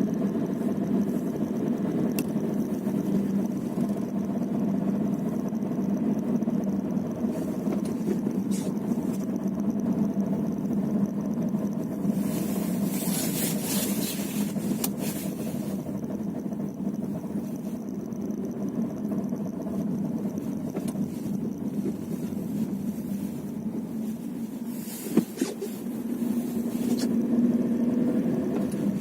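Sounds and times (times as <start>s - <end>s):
car road noise: 0.0s - 29.0s.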